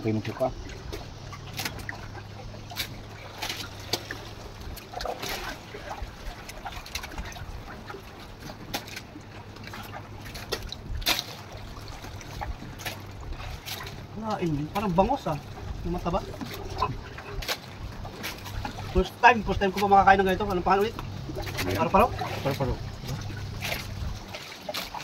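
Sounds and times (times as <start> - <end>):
steady low hum: 0.0 - 25.0
water lapping against boat hull: 0.0 - 25.0.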